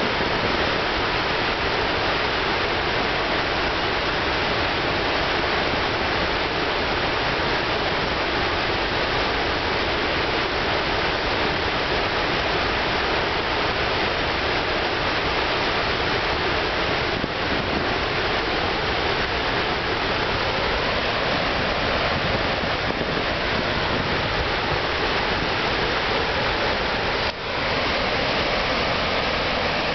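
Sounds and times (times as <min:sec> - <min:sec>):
water rushing over falls: 0:00.0 - 0:29.9.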